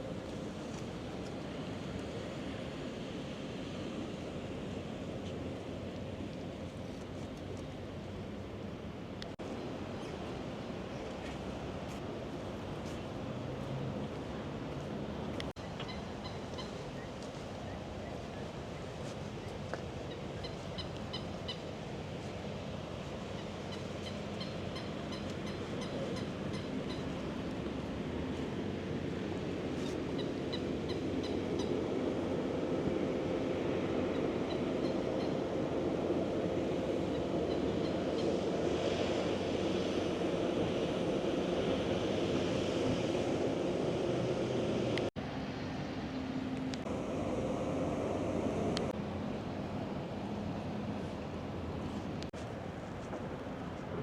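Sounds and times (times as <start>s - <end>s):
distant traffic hum: 0.0s - 54.0s.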